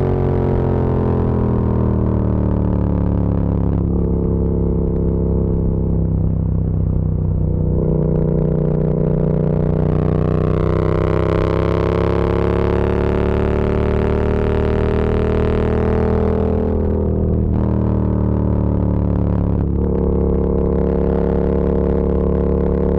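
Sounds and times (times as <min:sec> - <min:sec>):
motorcycle engine and exhaust: 0:00.0 - 0:22.9.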